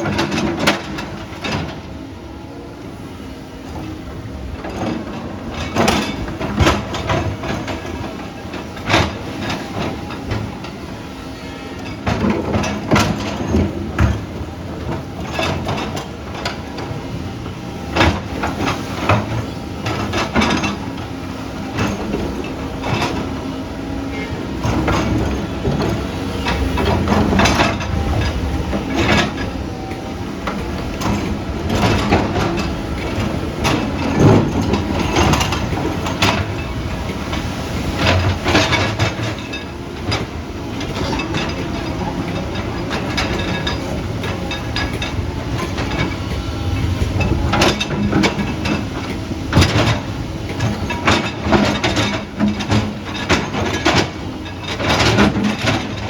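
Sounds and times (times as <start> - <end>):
diesel engine rumble: 0.0 - 56.0.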